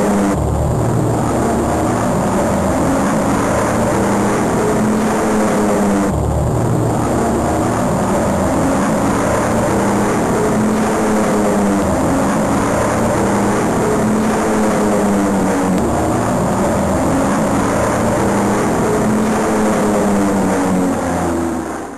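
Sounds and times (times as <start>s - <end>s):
propeller aircraft engine drone: 0.0s - 21.9s.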